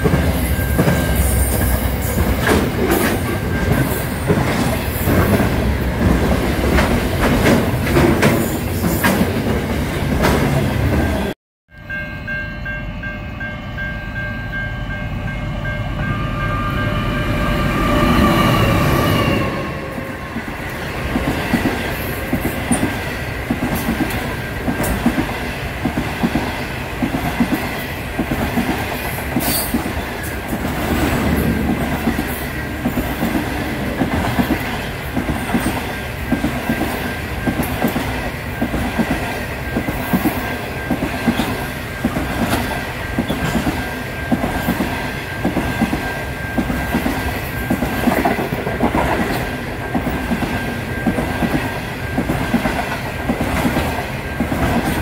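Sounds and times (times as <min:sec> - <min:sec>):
train wheels clickety-clack: 0:00.0 - 0:11.4, 0:19.9 - 0:55.0.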